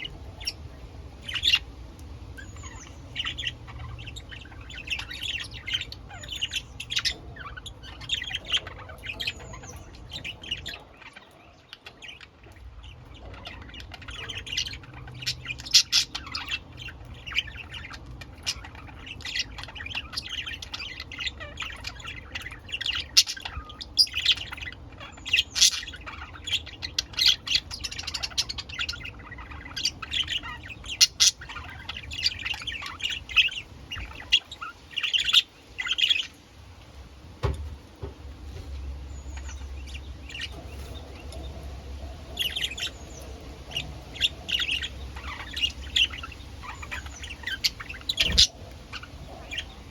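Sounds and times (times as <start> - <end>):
budgerigars chirping and chattering: 0.0 - 49.9.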